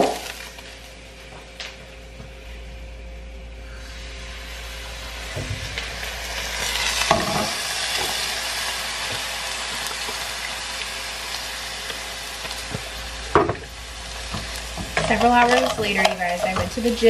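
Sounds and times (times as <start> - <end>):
food sizzling in a frying pan: 0.0 - 1.0, 3.7 - 17.0.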